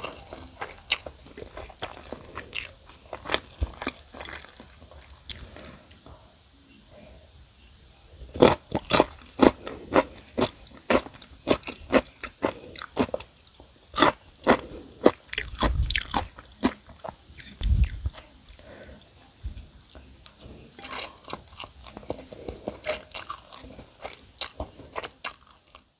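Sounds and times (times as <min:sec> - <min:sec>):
crunching and chewing: 0:00.0 - 0:06.1, 0:08.3 - 0:19.1, 0:19.8 - 0:25.9.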